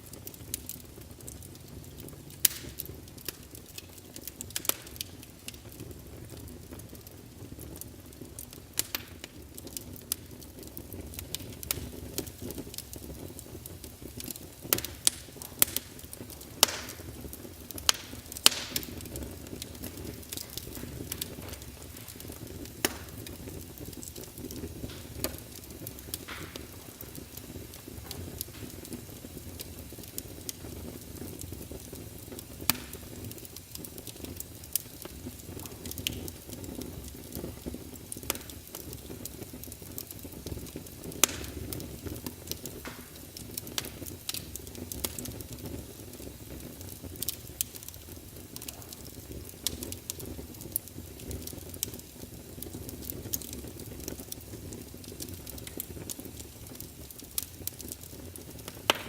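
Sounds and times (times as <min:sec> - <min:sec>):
burning logs crackling and popping: 0:00.0 - 0:59.0
low rumble of flame: 0:00.0 - 0:59.0.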